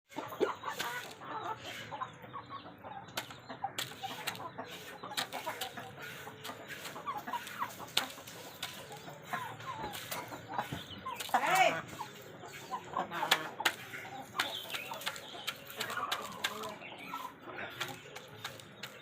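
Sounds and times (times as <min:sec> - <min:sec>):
beak pecking at food: 0:03.1 - 0:19.0.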